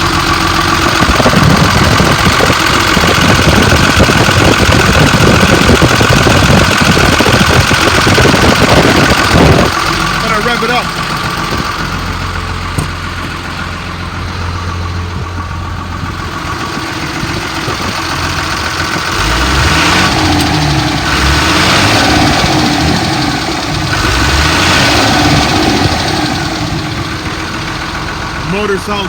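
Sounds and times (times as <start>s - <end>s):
diesel engine idling and revving: 0.0s - 29.0s.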